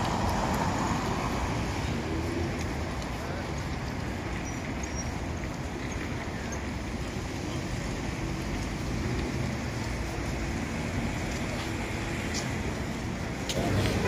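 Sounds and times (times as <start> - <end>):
road traffic hiss: 0.0 - 14.0.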